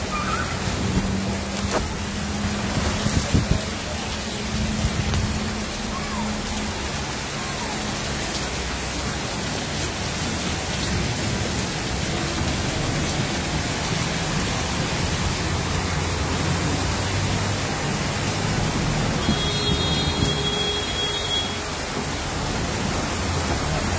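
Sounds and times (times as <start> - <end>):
heavy rain falling: 0.0 - 23.9
truck splashing through floodwater: 0.0 - 23.9.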